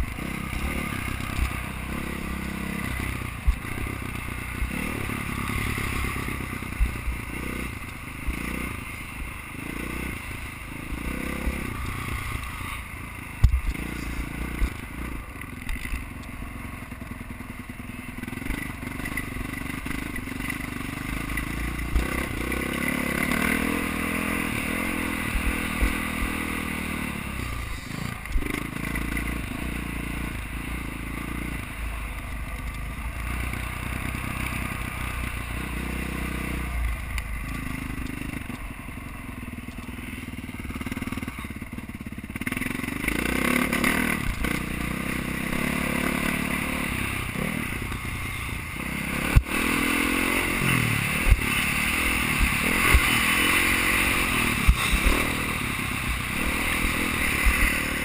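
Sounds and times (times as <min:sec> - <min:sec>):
dirt bike engine revving: 0:00.0 - 0:16.0, 0:18.0 - 0:38.7, 0:40.0 - 0:58.0.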